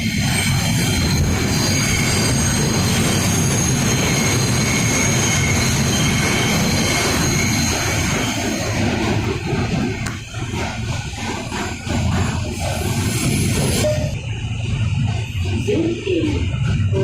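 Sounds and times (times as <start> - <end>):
high wheel squeal: 0.0 - 17.0
subway wheels rumbling on track: 0.0 - 17.0.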